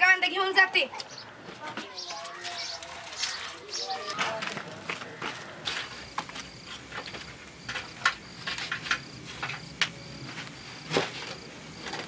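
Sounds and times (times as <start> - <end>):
cricket chirping: 1.0 - 12.0.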